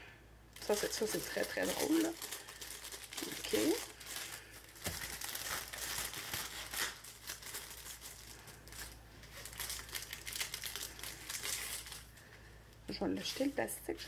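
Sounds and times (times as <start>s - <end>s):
plastic wrapping crinkling: 0.6s - 12.4s, 13.2s - 14.0s.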